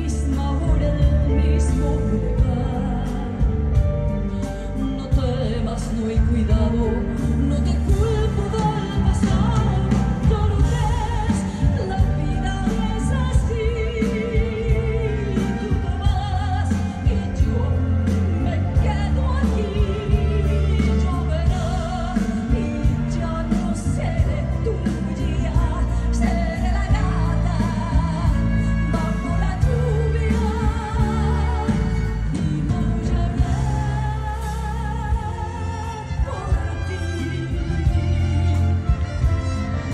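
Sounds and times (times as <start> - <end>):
band playing: 0.0 - 39.9
steady bass line: 0.0 - 39.9
woman singing a ballad: 0.0 - 39.9.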